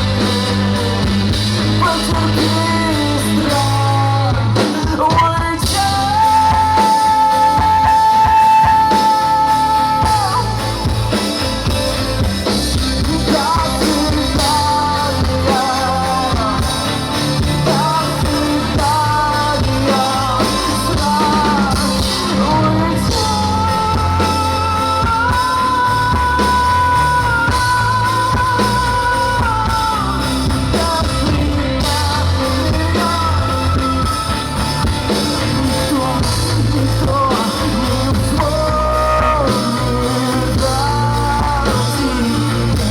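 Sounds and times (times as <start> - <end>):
person singing long notes: 0.0 - 11.2, 12.8 - 42.9
live rock band playing: 0.0 - 42.9.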